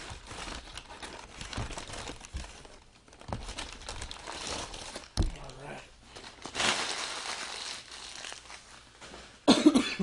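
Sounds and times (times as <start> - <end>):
packing paper crinkling: 0.0 - 9.0.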